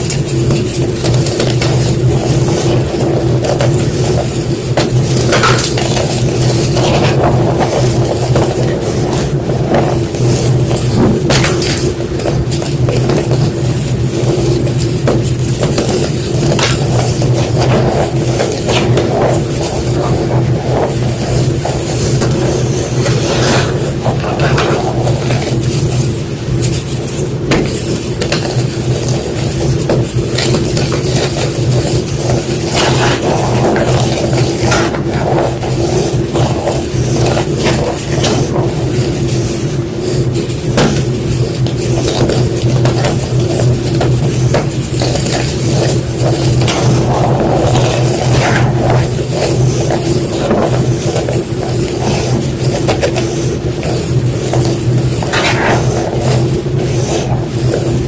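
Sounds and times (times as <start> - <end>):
steady low hum: 0.0 - 58.0
chalk crunching and crumbling: 0.4 - 58.0.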